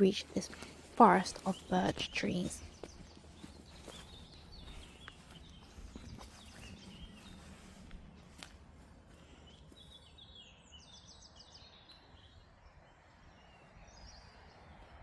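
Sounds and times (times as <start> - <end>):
faint birdsong: 0.0 - 15.0
outdoor background noise: 0.0 - 15.0.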